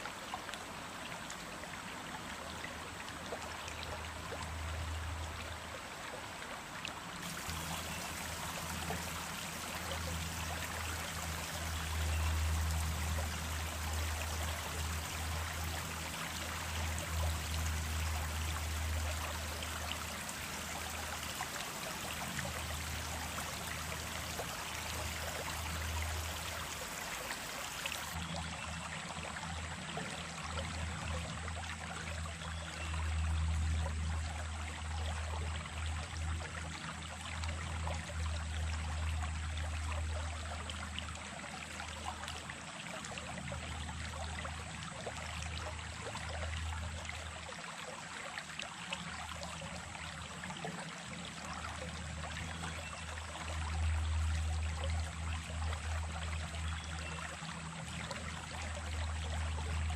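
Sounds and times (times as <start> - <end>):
brook water rushing: 0.0 - 59.9.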